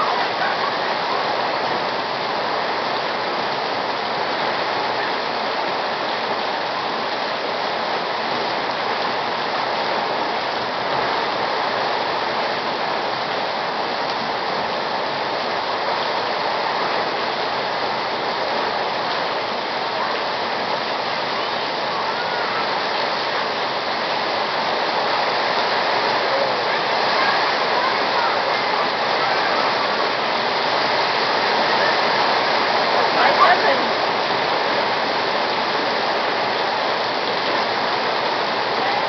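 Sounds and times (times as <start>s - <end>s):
torrential rain on pavement: 0.0s - 39.0s.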